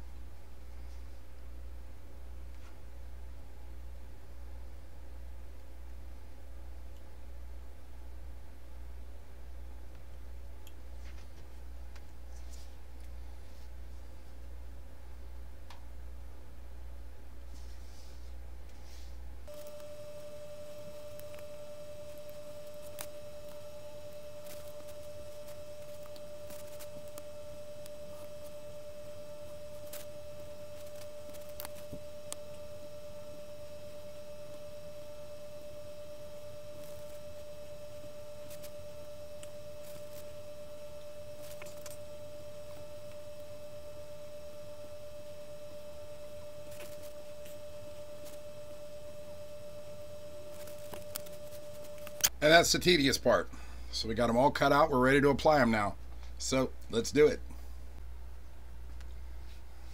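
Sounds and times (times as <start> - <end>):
steady pure tone: 0.0 - 59.9.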